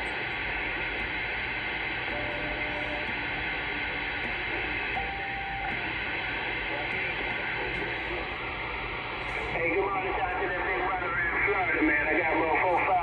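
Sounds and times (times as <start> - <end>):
radio receiver static: 0.0 - 13.0.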